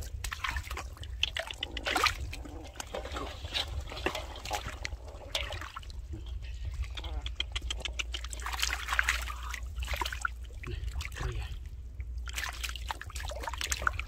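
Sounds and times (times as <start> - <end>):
floodwater splashing and trickling: 0.0 - 14.0
steady low rumble: 0.0 - 14.0
short splashes and clicks: 0.1 - 5.9, 6.8 - 11.2, 12.2 - 14.0.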